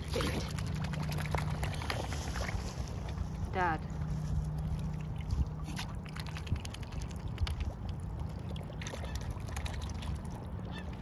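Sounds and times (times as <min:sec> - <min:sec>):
small water splashes: 0:00.0 - 0:11.0.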